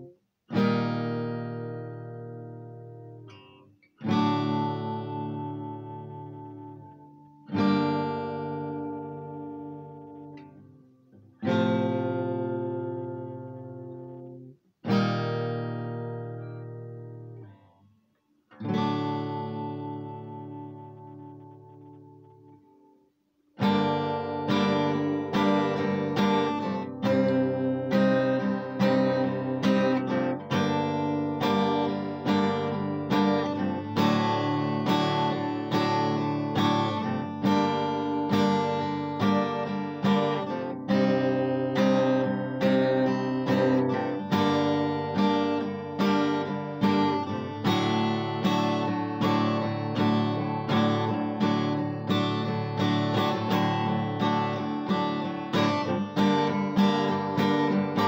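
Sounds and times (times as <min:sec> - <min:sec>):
acoustic guitar strumming chords: 0:00.0 - 0:17.8, 0:18.5 - 0:58.0.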